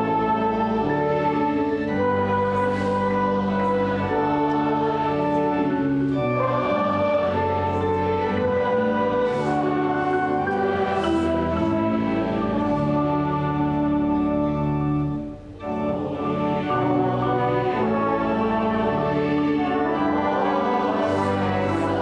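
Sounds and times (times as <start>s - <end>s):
hymn on marimba organ and horn: 0.0s - 22.0s.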